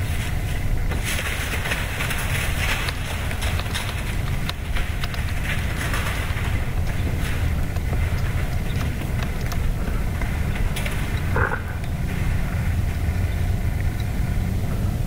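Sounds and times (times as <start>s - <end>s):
light ticks and rustles: 0.0s - 15.0s
wind buffeting microphone: 0.0s - 15.0s.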